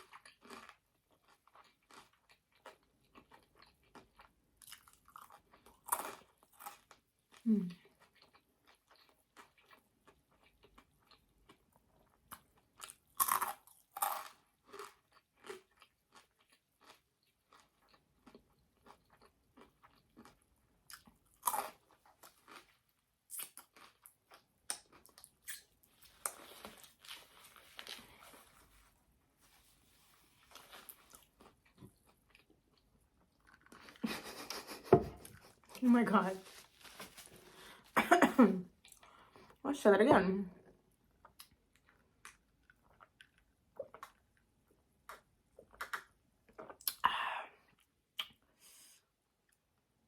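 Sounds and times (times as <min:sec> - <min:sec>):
person chewing food: 0:00.0 - 0:35.8, 0:36.4 - 0:38.0, 0:38.7 - 0:39.6, 0:40.9 - 0:47.0.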